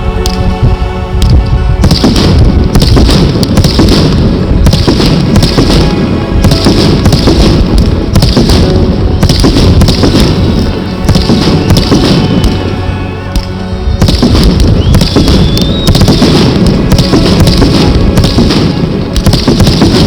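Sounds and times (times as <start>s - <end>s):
fireworks banging: 0.0s - 20.0s.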